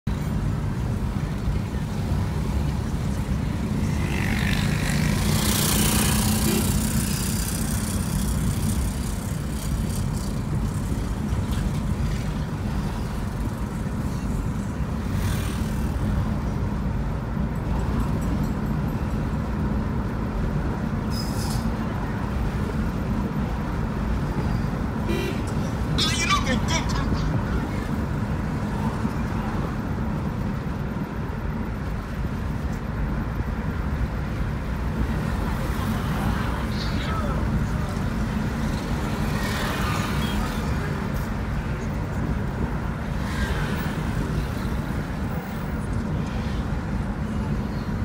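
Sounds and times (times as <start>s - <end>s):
car engine and tyres rumbling: 0.0s - 48.0s
city traffic: 0.0s - 48.0s.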